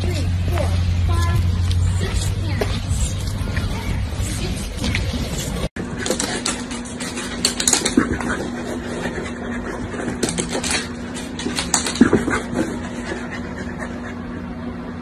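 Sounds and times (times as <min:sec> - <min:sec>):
steady low hum: 0:00.0 - 0:15.0
dog claws scratching on floor: 0:01.4 - 0:14.1.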